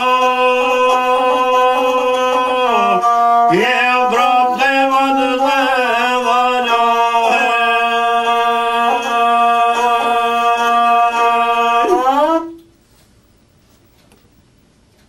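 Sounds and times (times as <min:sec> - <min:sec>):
man singing long held notes: 0:00.0 - 0:12.7.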